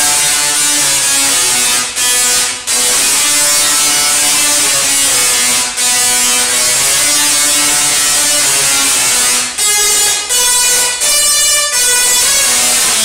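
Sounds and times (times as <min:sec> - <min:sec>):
singing tesla coil buzzing: 0:00.0 - 0:13.0.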